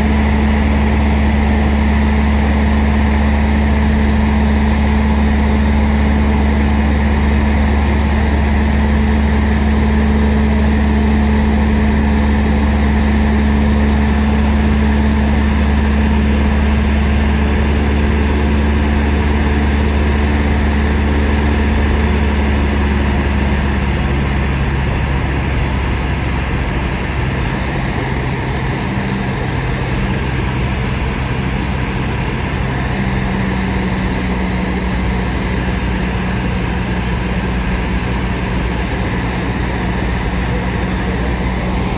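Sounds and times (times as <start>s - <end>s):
propeller plane engine drone: 0.0s - 41.9s.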